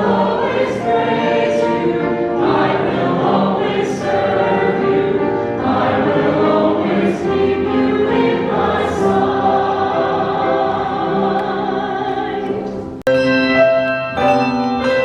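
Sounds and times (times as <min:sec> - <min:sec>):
choir singing sacred music: 0:00.0 - 0:13.1.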